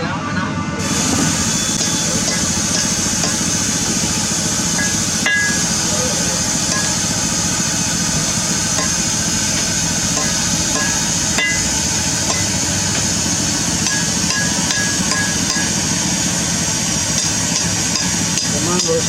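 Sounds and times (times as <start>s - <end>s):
drilling rig engine hum: 0.8s - 19.0s
hydraulic hiss: 0.8s - 19.0s.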